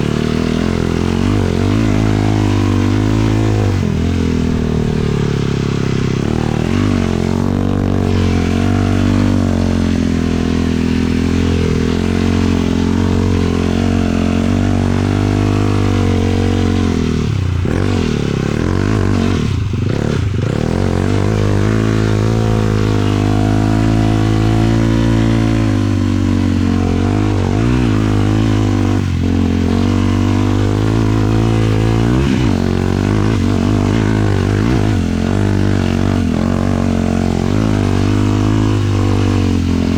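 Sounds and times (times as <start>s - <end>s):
quad engine running under throttle: 0.0s - 39.9s.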